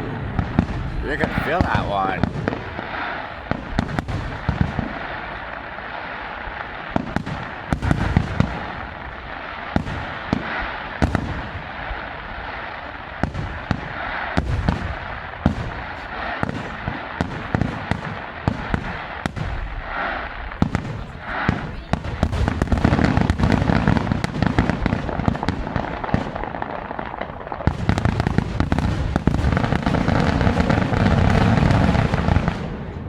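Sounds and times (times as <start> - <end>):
crackling fireworks shells: 0.0 - 33.0
fireworks bangs: 0.0 - 33.0.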